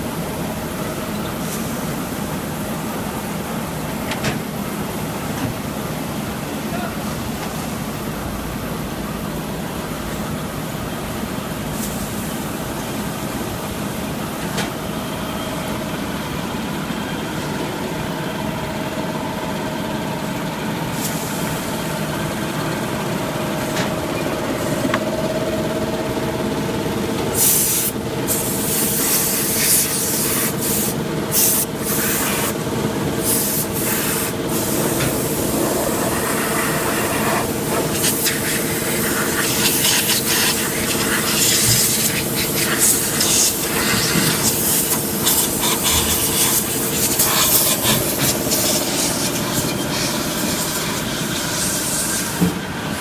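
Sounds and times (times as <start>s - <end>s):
packing machine humming: 0.0s - 53.0s.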